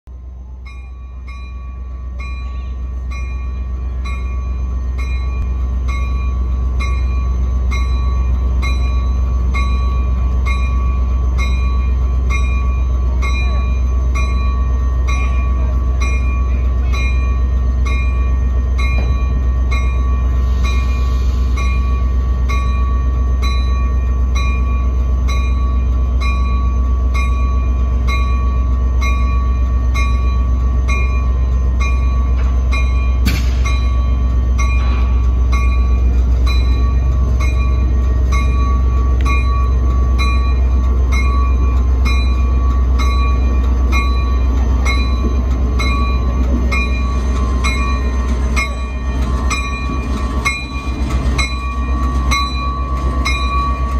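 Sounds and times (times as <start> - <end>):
diesel locomotive engine rumbling: 0.0 - 53.9
locomotive bell ringing: 0.1 - 53.9.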